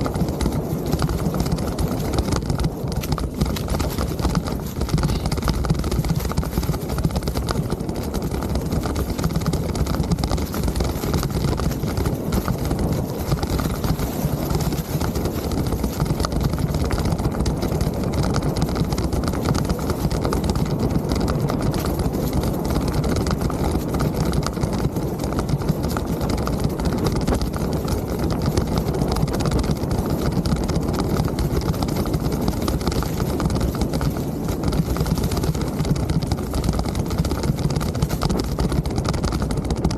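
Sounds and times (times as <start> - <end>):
bike rattling and knocking: 0.0 - 39.9
wind and tyre rumble: 0.0 - 39.9.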